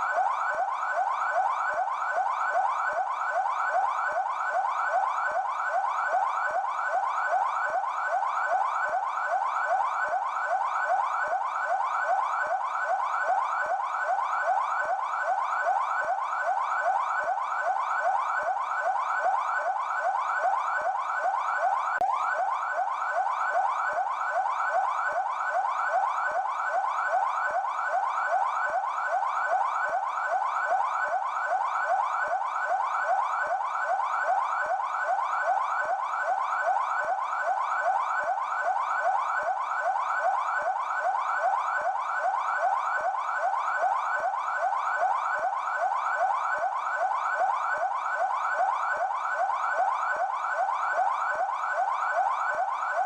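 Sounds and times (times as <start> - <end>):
police siren yelping: 0.0 - 53.0.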